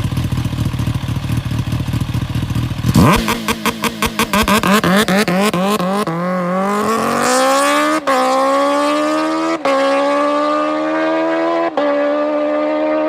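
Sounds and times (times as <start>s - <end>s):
motorcycle engine accelerating hard: 0.0s - 13.0s.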